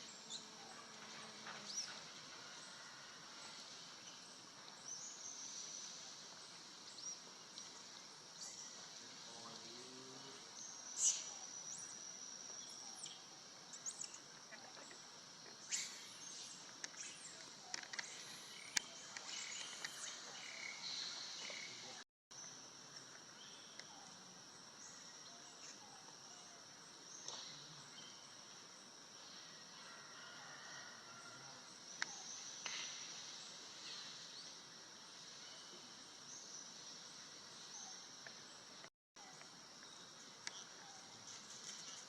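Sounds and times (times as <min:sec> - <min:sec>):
high insect drone: 0:00.0 - 0:42.0.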